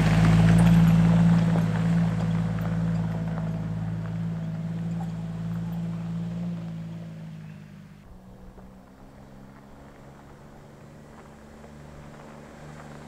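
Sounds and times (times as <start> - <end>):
car engine running: 0.0 - 13.0
tyres crunching on gravel: 0.0 - 13.0.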